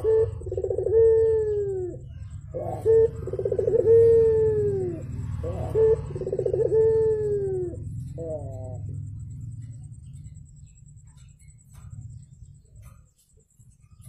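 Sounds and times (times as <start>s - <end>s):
dove cooing: 0.0s - 13.2s
steady low hum: 0.0s - 14.0s.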